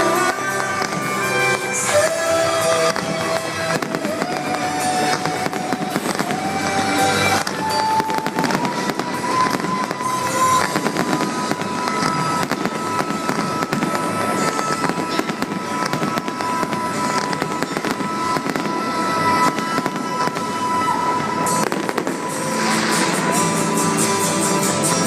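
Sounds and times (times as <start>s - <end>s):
fireworks bangs and crackles: 0.0s - 25.0s
loud show music: 0.0s - 25.0s.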